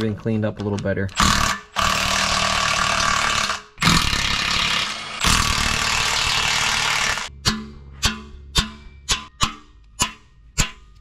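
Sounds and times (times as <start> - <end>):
impact wrench hammering: 1.2 - 11.0.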